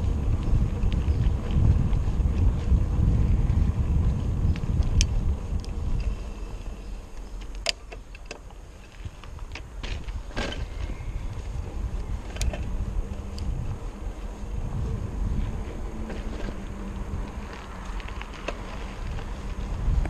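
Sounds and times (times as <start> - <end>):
bicycle clicks and rattles: 0.0 - 20.0
wind buffeting microphone: 0.0 - 20.0.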